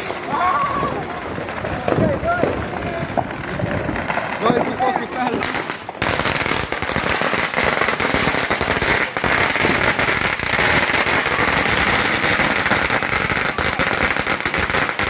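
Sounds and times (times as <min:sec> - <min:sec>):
fireworks crackling and hissing: 0:00.0 - 0:15.0.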